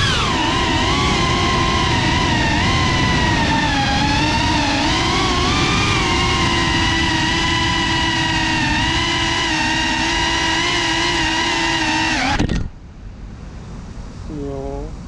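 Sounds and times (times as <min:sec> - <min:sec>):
drone motors whining: 0:00.0 - 0:12.8
propellers rushing: 0:00.0 - 0:12.8.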